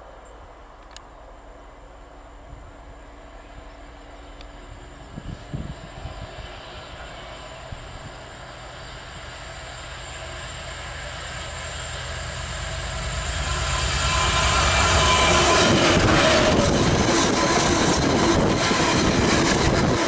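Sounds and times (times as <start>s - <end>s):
diesel freight train approaching: 0.0s - 20.0s.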